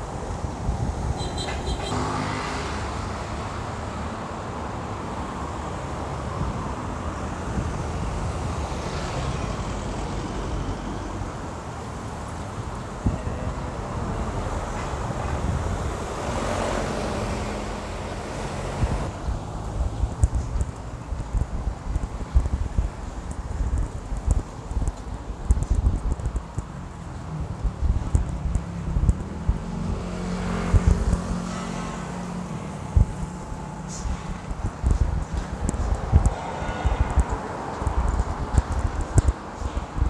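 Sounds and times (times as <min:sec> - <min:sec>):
wind rumble on microphone: 0:00.0 - 0:02.0, 0:03.3 - 0:40.0
vehicles passing: 0:00.0 - 0:40.0.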